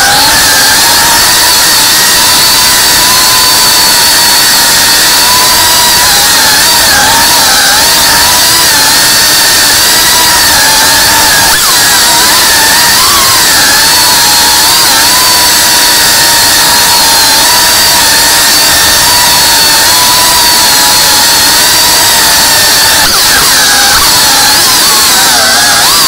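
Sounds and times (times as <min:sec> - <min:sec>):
drone propellers whining: 0:00.0 - 0:26.0.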